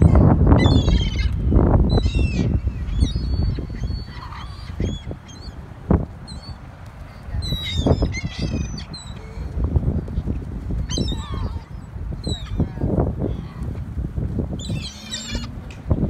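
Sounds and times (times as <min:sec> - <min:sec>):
gulls calling: 0:00.0 - 0:16.0
low rumble on microphone: 0:00.0 - 0:16.0.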